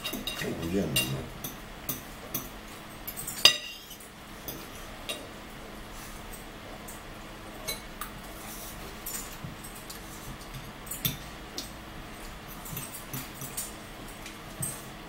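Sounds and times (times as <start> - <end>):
forks clinking on plates: 0.0 - 5.3, 7.6 - 14.8.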